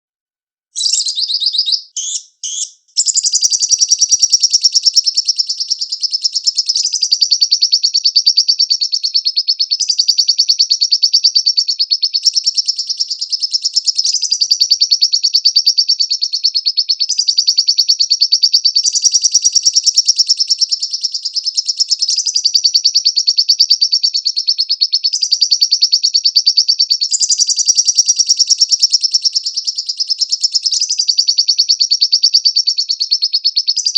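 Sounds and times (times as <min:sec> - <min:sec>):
lovebird chattering trill: 0:00.8 - 0:33.9.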